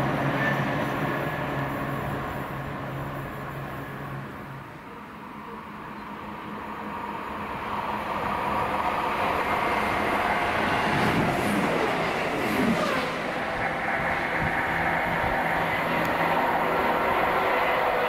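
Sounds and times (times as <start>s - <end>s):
diesel train passing: 0.0s - 18.0s.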